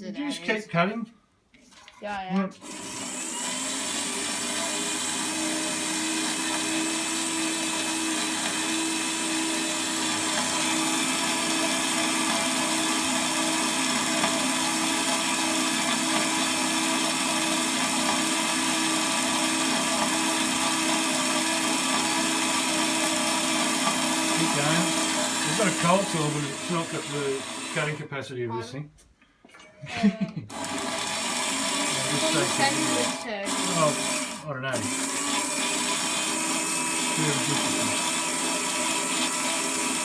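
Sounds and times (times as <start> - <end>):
bandsaw cutting steel: 2.5 - 28.0, 30.5 - 40.0.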